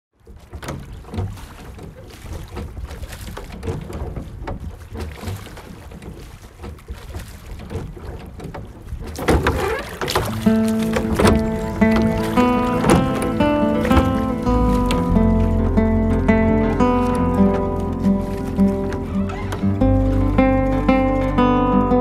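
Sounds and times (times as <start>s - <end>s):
low rumble of water and wind: 0.1s - 22.0s
oars splashing in water: 0.2s - 22.0s.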